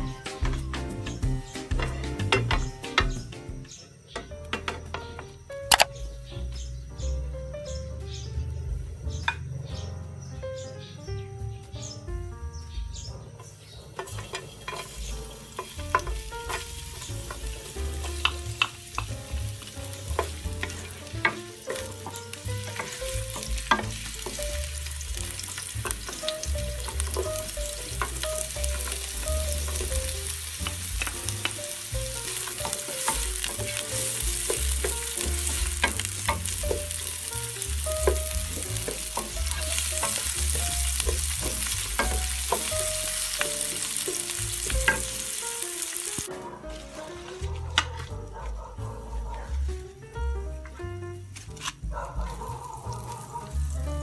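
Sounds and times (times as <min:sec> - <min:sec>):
garlic and onion sizzling in oil: 0:00.0 - 0:06.8, 0:12.0 - 0:54.0.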